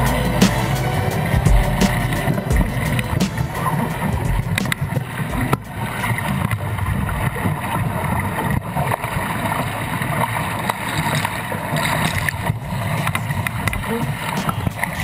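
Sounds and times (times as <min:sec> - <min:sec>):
water rushing along hull: 0:00.0 - 0:15.0.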